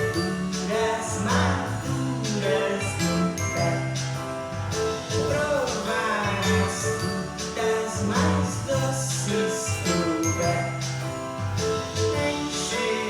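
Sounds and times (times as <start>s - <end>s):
children's song singing: 0.0s - 13.0s
sustained bass notes: 0.0s - 13.0s.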